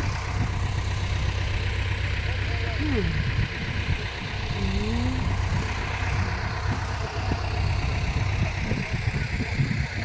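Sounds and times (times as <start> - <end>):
tractor engines idling: 0.0 - 10.0.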